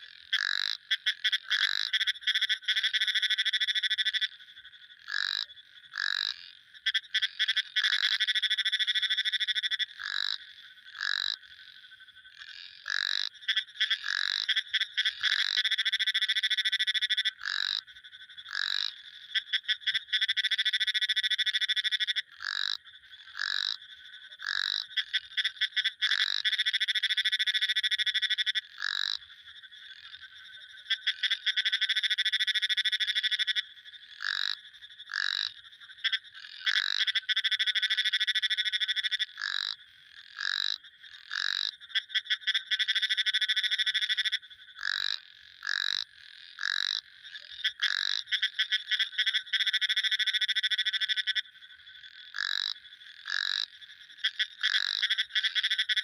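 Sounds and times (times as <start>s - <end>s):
frog calls dropping in pitch: 0.0s - 56.0s
frogs trilling: 0.0s - 56.0s.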